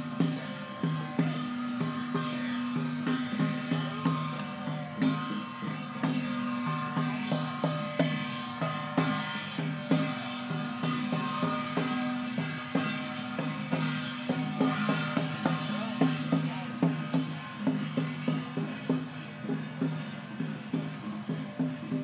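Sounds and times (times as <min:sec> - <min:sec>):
cymbals: 0:00.0 - 0:22.0
drums: 0:00.0 - 0:22.0
gongs: 0:00.0 - 0:22.0.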